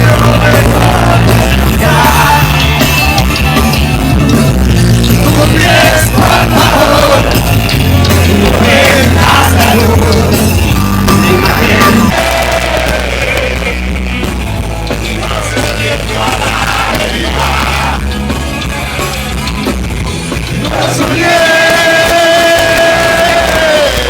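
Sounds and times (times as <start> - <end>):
rock music with singing: 0.0 - 24.0.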